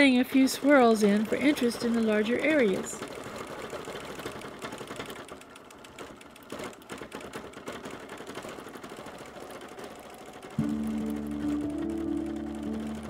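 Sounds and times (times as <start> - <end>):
quilting machine needle stitching: 0.0 - 13.0.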